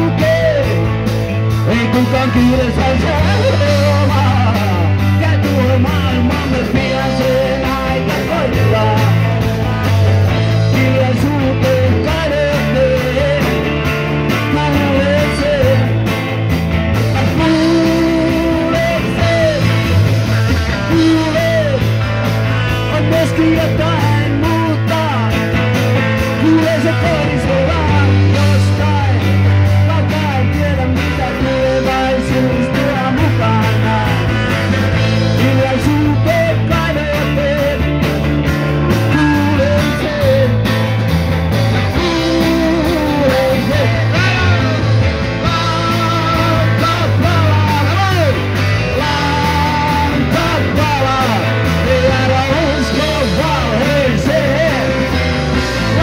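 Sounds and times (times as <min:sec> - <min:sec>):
man singing: 0:00.0 - 0:41.1, 0:41.7 - 0:56.0
live rock band playing: 0:00.0 - 0:56.0.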